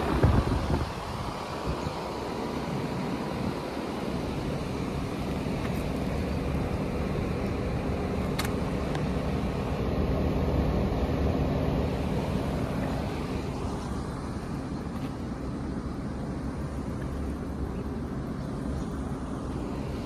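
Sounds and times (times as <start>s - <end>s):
condenser fan air rush: 0.0s - 20.0s.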